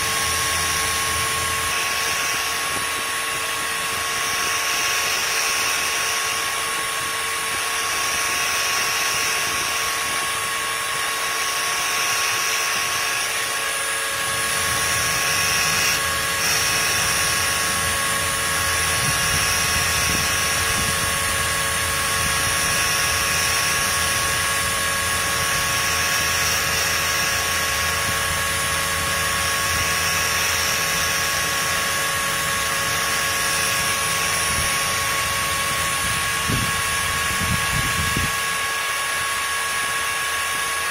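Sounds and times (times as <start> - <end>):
deeper hum: 0.0 - 11.4, 12.2 - 40.6
rotary tools whining: 0.0 - 40.9.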